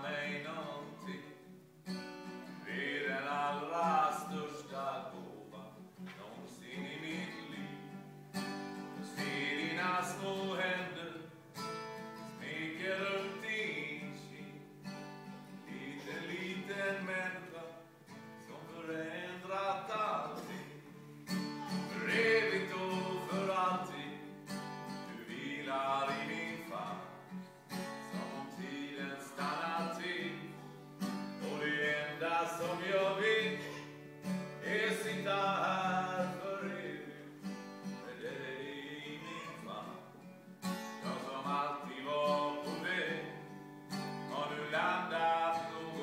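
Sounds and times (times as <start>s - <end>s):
man singing: 0.0s - 1.5s, 2.6s - 8.0s, 9.0s - 11.4s, 12.2s - 14.8s, 15.6s - 40.3s, 41.0s - 46.0s
acoustic guitar: 0.0s - 46.0s.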